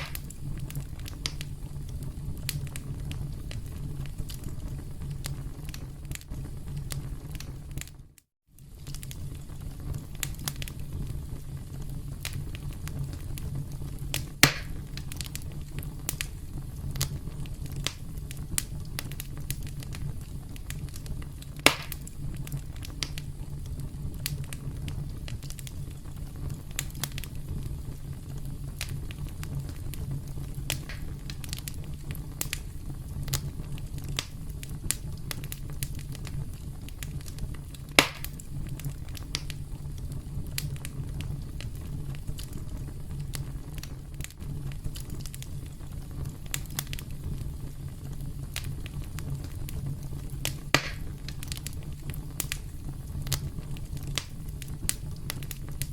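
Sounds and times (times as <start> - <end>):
campfire crackling: 0.0 - 55.9
loud fire pops: 0.0 - 55.9.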